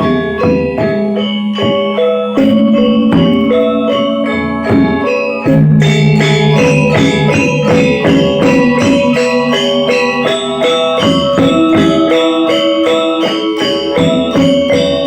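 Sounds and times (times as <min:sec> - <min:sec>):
gamelan ensemble playing: 0:00.0 - 0:15.0
jingling percussion: 0:00.0 - 0:15.0.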